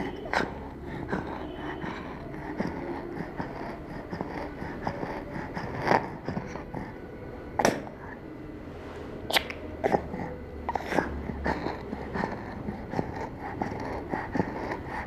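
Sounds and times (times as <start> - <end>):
child breathing with a wheeze: 0.0 - 8.4, 9.8 - 15.0.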